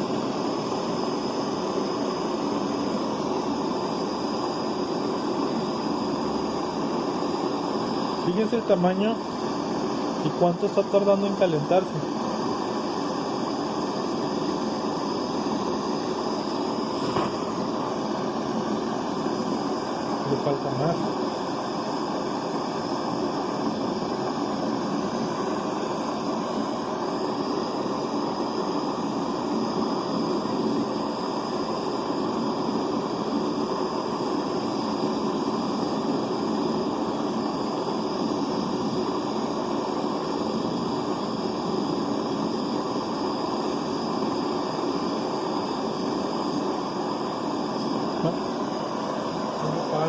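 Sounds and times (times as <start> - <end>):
butane torch hissing: 0.0 - 50.0.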